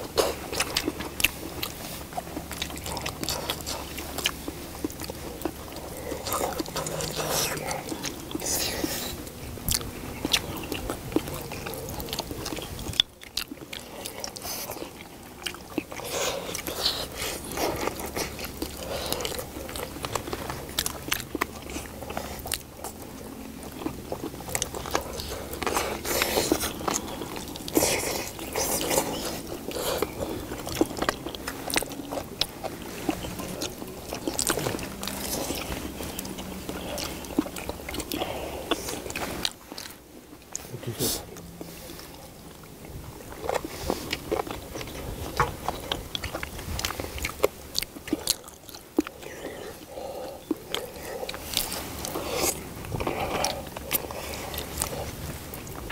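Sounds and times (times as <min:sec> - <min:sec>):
people chewing and biting: 0:00.0 - 0:55.9.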